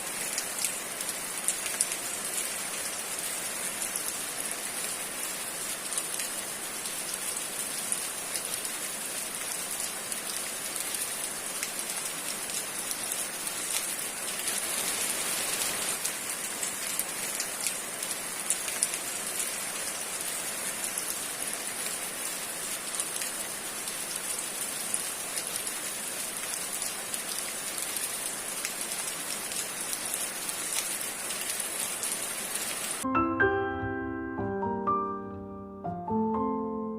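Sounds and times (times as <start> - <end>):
steady rain falling: 0.0 - 33.1.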